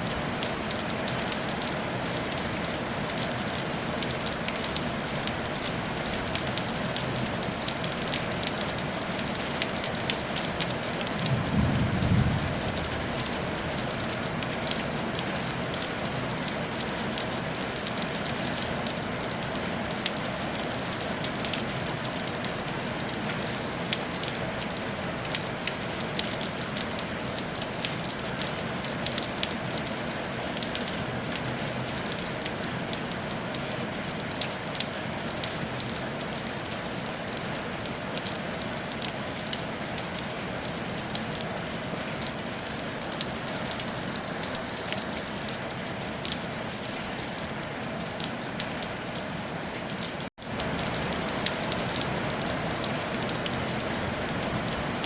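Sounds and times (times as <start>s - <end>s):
rain on a tile roof: 0.0s - 55.0s.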